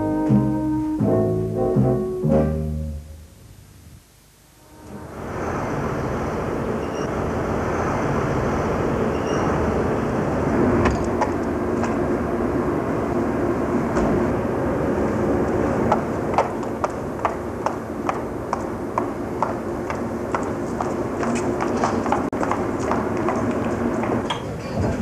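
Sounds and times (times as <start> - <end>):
rumbling vehicle noise: 4.8 - 25.0.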